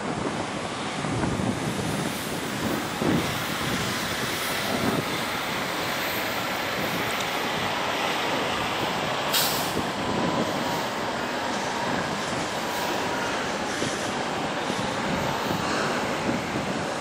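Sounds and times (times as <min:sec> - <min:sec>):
jet engines rushing: 0:00.0 - 0:17.0
wind buffeting microphone: 0:00.0 - 0:17.0.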